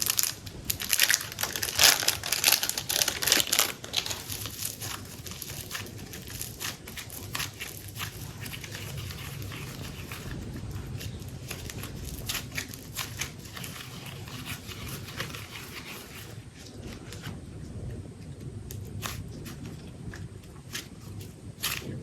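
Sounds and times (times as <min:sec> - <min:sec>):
plastic packaging crinkling: 0:00.0 - 0:17.4, 0:18.7 - 0:22.0
low steady hum: 0:00.0 - 0:22.0.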